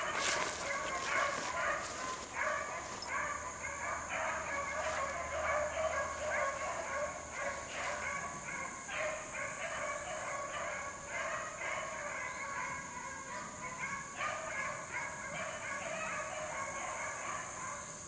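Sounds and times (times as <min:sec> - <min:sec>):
hounds baying: 0:00.0 - 0:18.0.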